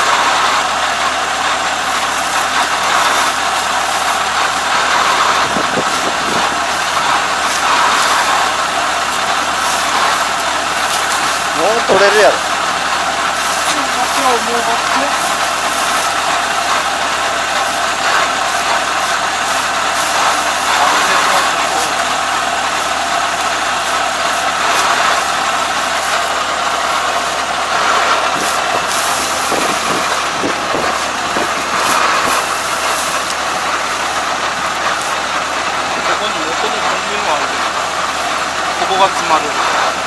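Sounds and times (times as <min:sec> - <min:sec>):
combine harvester engine idling: 0:00.0 - 0:40.0.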